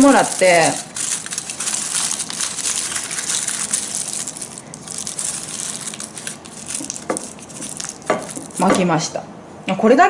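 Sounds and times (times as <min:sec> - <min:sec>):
aluminium foil crinkling: 0:00.0 - 0:08.8.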